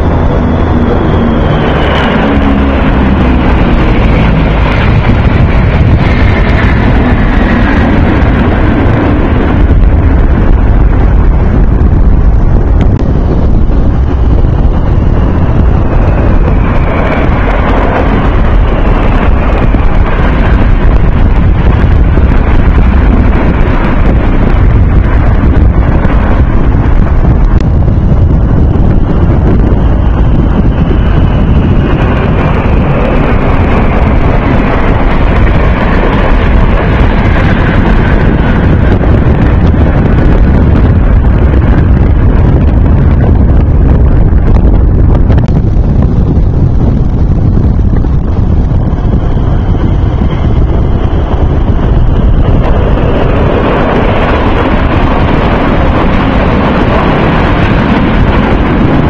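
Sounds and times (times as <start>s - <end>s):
jet aircraft flying overhead: 0.0s - 59.0s
wind buffeting microphone: 0.0s - 59.0s.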